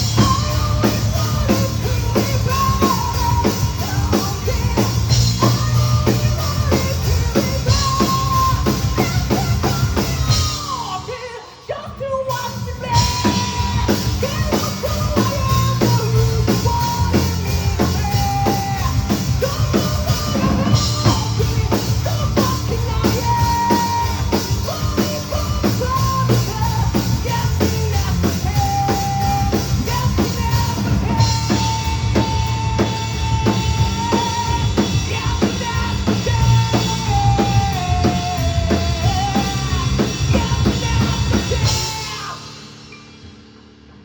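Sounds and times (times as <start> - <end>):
drum kit: 0.0 - 44.0
rock band playing loudly: 0.0 - 44.0.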